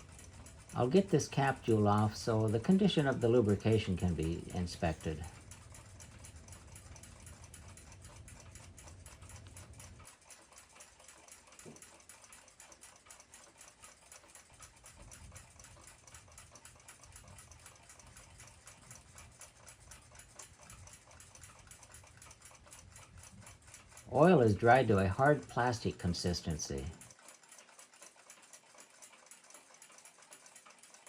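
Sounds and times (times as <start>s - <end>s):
clock ticking: 0.0s - 31.0s.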